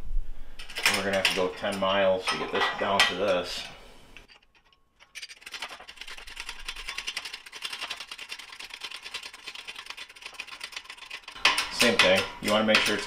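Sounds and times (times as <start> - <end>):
fine metallic clicking and scraping: 0.5 - 13.0.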